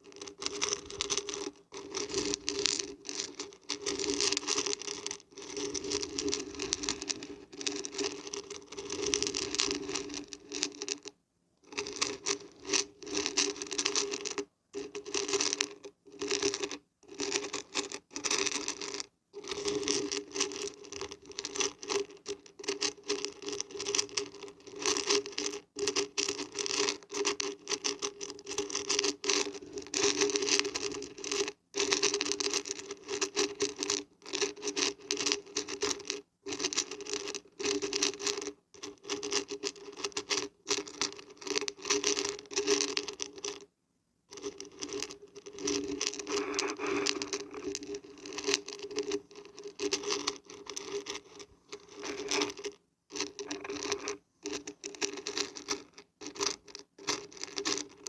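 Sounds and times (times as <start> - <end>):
beans rattling when shaken: 0.0 - 11.1, 11.7 - 43.7, 44.3 - 58.0.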